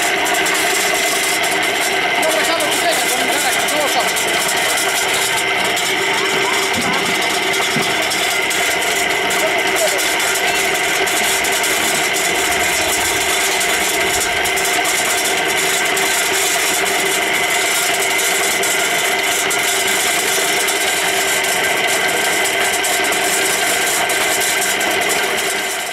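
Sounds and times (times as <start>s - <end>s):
concrete mixer running: 0.0s - 25.9s.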